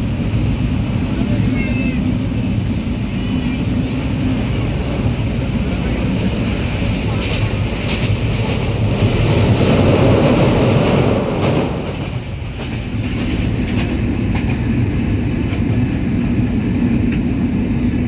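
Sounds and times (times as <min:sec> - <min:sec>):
train rumbling along track: 0:00.0 - 0:18.0
rail joint clicks: 0:02.6 - 0:18.0.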